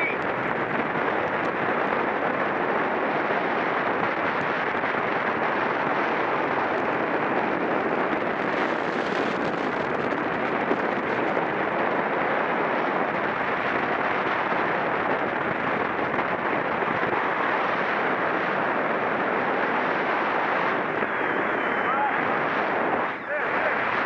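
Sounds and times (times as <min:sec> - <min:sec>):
rushing wind noise: 0:00.0 - 0:24.0
tyre and road noise: 0:00.0 - 0:24.0.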